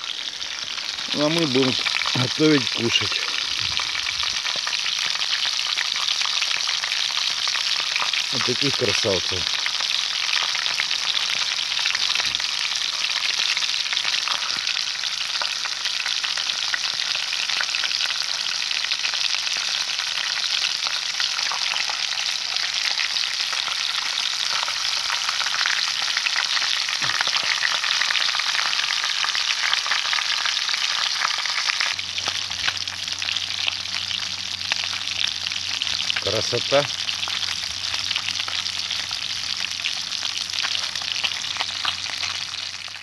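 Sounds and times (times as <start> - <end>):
fish sizzling in hot oil: 0.0 - 43.0.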